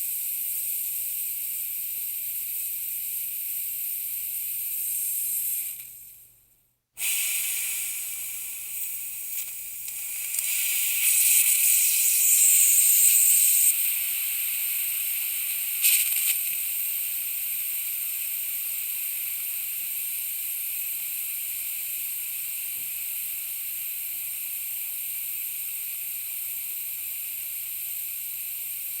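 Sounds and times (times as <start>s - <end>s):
compressed air hissing: 1.9s - 6.0s, 7.0s - 29.0s.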